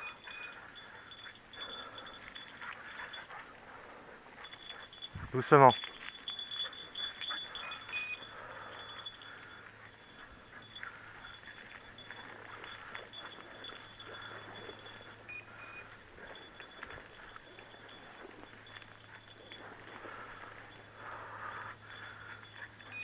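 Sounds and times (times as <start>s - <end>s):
faint high beeps: 0.0s - 3.5s, 4.4s - 23.0s.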